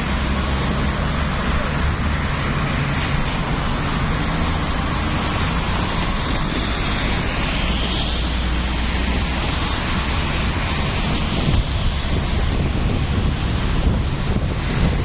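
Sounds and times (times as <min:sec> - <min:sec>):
highway traffic rush: 0:00.0 - 0:15.0
low traffic rumble: 0:00.0 - 0:15.0.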